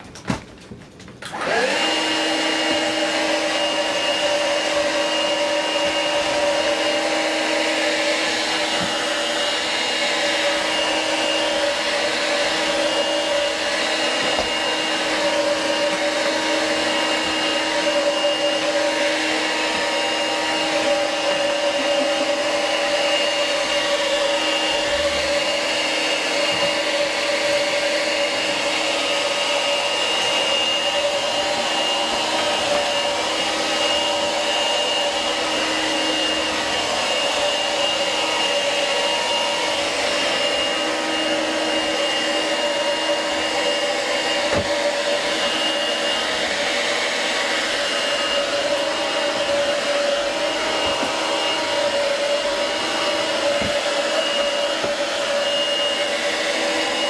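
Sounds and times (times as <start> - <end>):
vacuum cleaner motor whining: 0.0 - 57.0.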